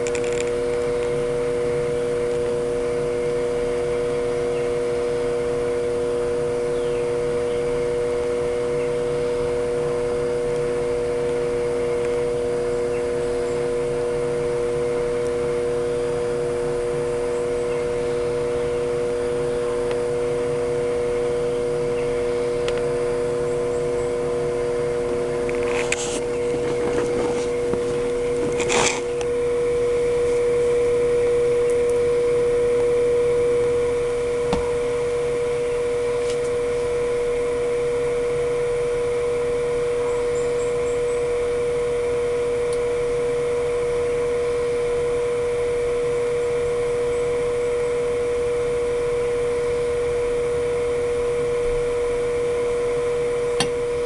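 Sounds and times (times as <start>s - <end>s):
incubator fan humming: 0.0s - 54.0s.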